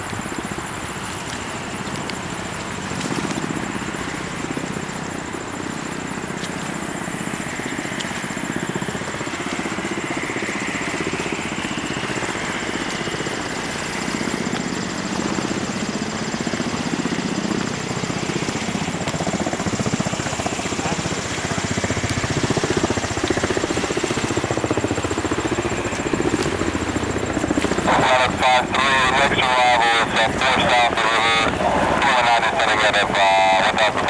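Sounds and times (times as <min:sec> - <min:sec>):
helicopter rotor chop: 0:00.0 - 0:34.0.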